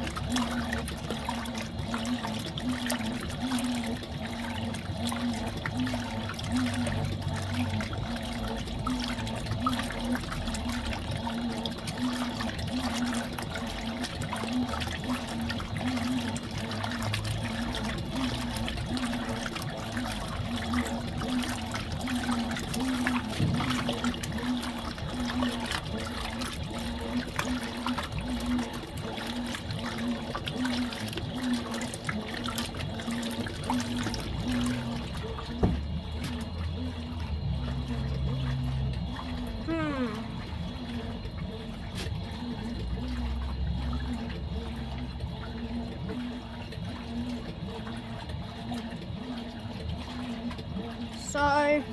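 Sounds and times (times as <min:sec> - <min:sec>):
washing machine motor hum: 0:00.0 - 0:51.9
water sloshing in washing machine: 0:00.0 - 0:51.9.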